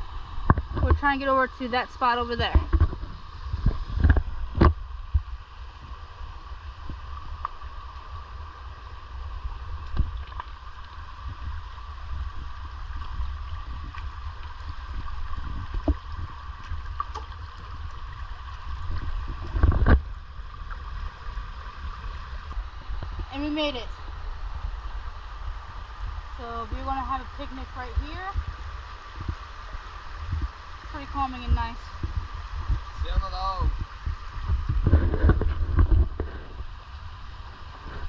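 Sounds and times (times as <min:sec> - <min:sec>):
creek babbling: 0:00.0 - 0:03.5, 0:04.2 - 0:32.5
low rumble on microphone: 0:00.0 - 0:38.0.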